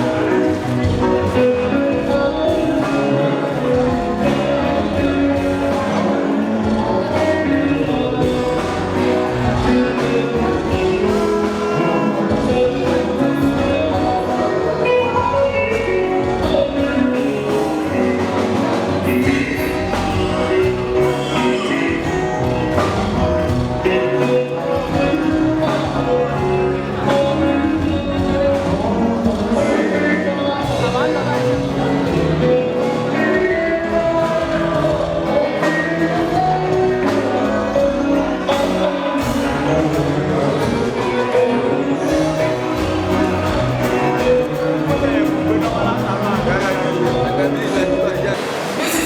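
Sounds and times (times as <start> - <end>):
bass line: 0.0 - 49.0
guitar: 0.0 - 49.0
person singing: 0.0 - 49.0.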